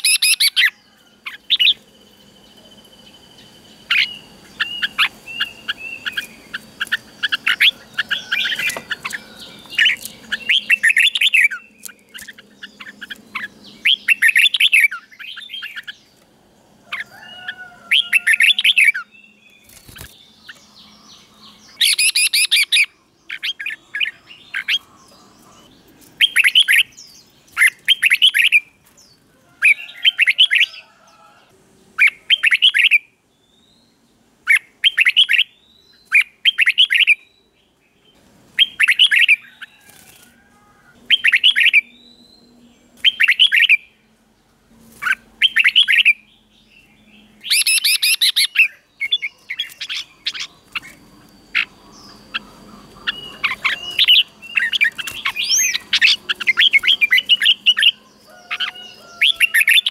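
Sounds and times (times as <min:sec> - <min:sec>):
bird warbling song: 0:00.0 - 0:31.4, 0:32.0 - 0:44.2, 0:45.0 - 0:59.9.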